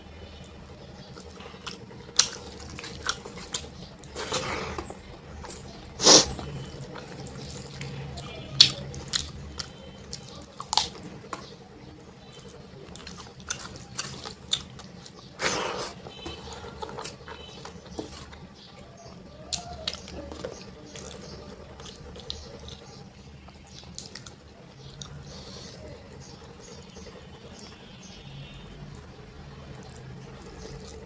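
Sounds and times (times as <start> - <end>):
person chewing wet smacking: 1.0 - 11.6, 12.4 - 27.8.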